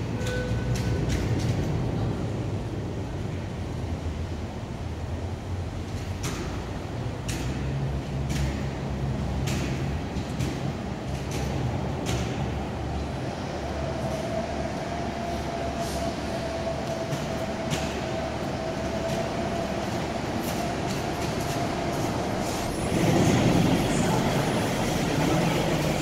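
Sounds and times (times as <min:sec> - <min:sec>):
bus engine low rumble: 0:00.0 - 0:26.0.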